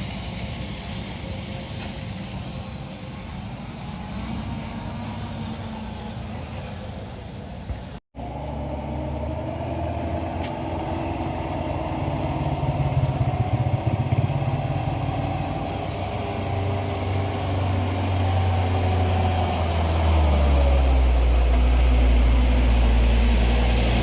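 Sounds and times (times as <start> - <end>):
heavy truck engine under load: 0.0 - 24.0.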